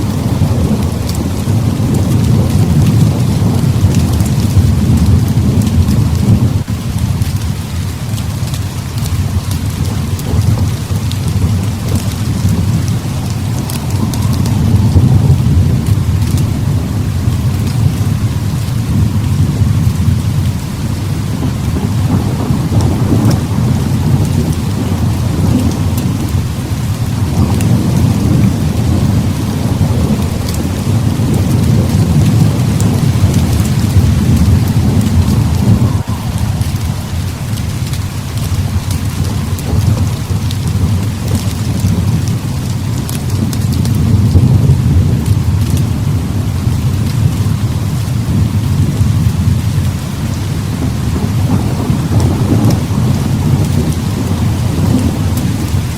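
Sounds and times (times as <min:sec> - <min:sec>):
heavy rain pouring: 0:00.0 - 0:55.9
rolling thunder: 0:00.0 - 0:55.9.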